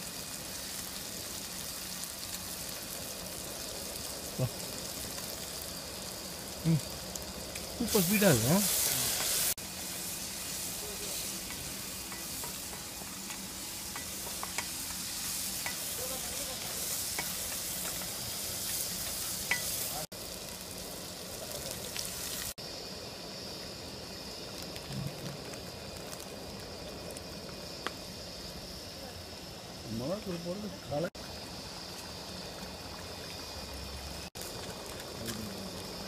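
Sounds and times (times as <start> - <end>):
tomatoes sizzling in a pan: 0.0 - 36.0.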